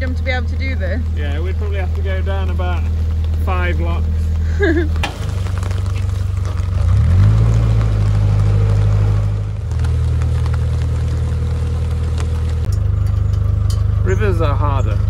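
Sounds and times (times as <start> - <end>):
diesel boat engine revving: 0.0 - 15.0.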